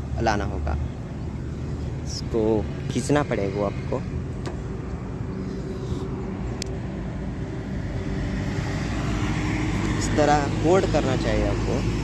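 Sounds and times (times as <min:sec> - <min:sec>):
low engine-like drone: 0:00.0 - 0:12.0.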